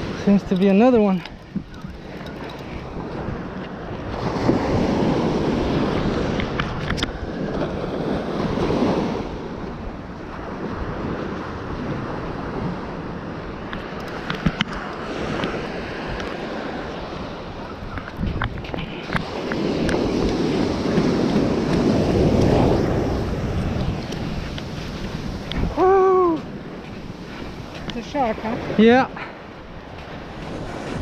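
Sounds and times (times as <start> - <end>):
ocean surf washing up beach: 0.0 - 31.0
wind buffeting microphone: 0.0 - 31.0.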